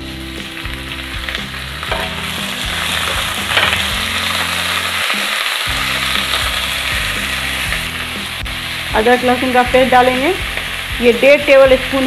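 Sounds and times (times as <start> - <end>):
background music low notes: 0.0 - 12.0
meat sizzling in oil: 0.0 - 12.0.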